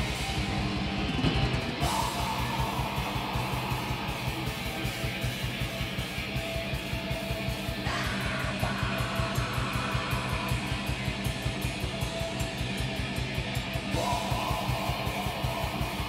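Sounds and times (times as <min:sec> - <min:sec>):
high guitar line: 0:00.0 - 0:16.0
live metal band playing: 0:00.0 - 0:16.0.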